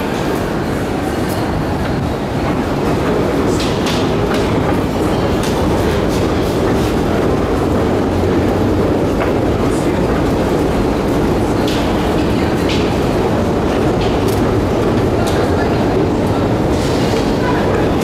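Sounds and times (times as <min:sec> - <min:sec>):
escalator mechanical rumble: 0:01.6 - 0:18.0.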